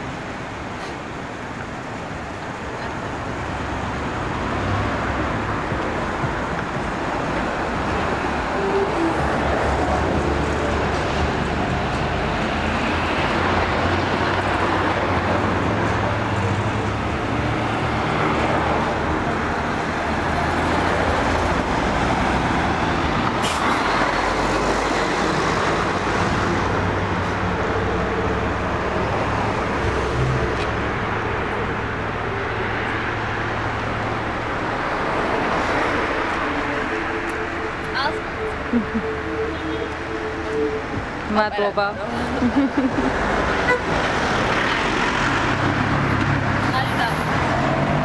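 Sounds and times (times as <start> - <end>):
city traffic rumble: 0.0 - 48.0.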